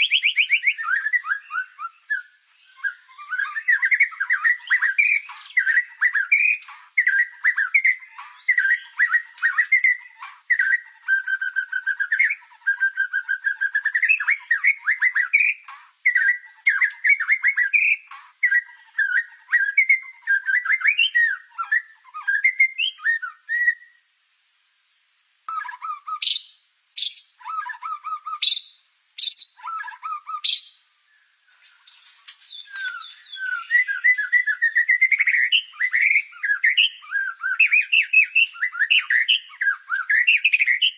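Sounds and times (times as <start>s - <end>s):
songbird whistling and trilling: 0.0s - 24.1s, 25.5s - 40.9s.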